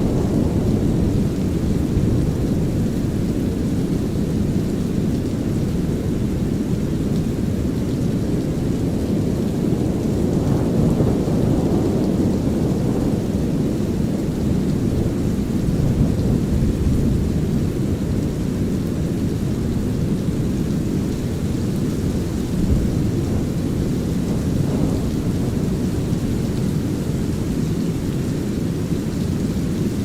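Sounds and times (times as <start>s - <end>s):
low rumbling thunder: 0.0s - 29.5s
light drizzling rain: 0.0s - 30.0s.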